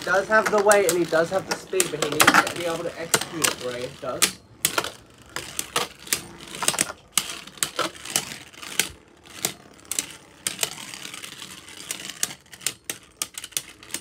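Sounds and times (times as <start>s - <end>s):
spinning tops whirring: 0.0s - 14.0s.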